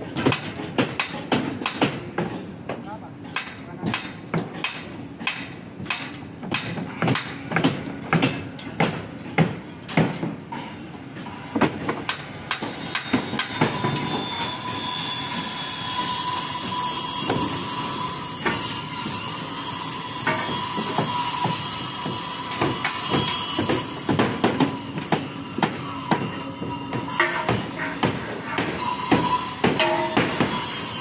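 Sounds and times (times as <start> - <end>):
construction site noise: 0.0 - 31.0.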